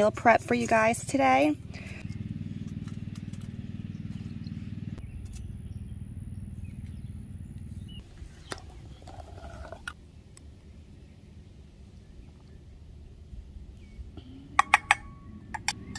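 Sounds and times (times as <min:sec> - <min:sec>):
low pulsing drone: 0:01.5 - 0:15.9.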